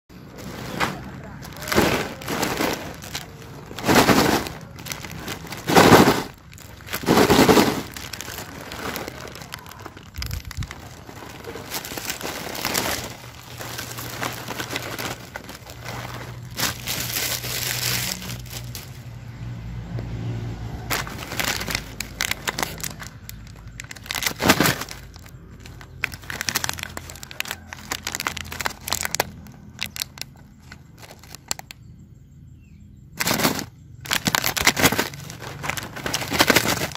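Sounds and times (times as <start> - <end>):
plastic packaging crinkling: 0.2 - 19.0, 20.9 - 31.8, 33.2 - 36.9.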